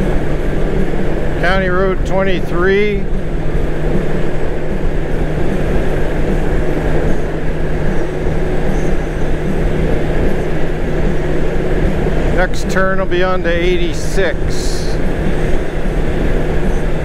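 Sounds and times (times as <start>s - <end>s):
motorcycle engine humming: 0.0s - 17.0s
wind and road noise: 0.0s - 17.0s.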